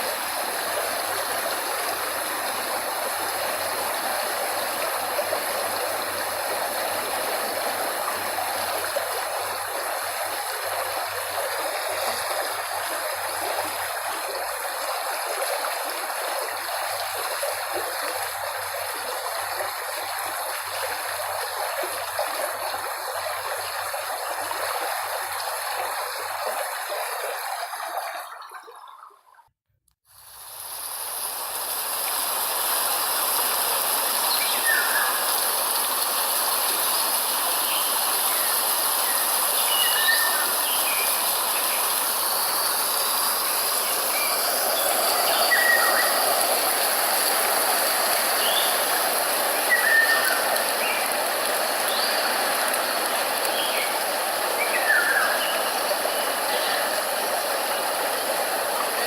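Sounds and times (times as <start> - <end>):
stream water rushing: 0.0 - 28.5, 30.2 - 59.0.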